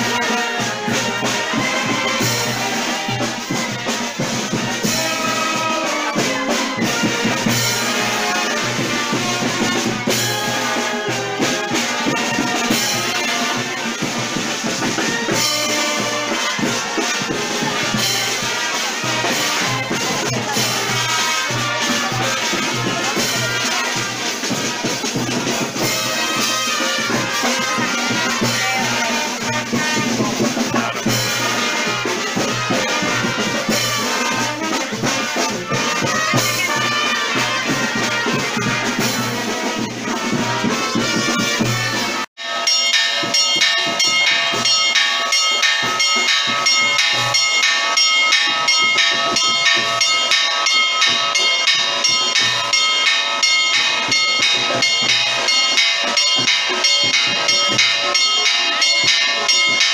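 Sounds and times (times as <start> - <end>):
brass band with drums: 0.0 - 59.9.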